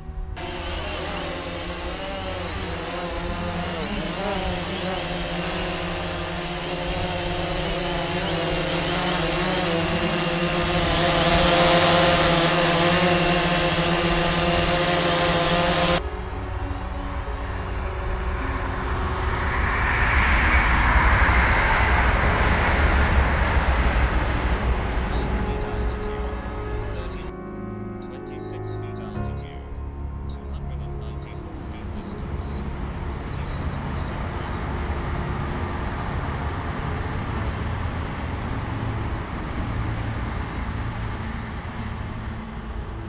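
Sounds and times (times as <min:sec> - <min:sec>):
drone propeller buzz: 0:00.0 - 0:43.0
passing train rumble: 0:00.0 - 0:43.0.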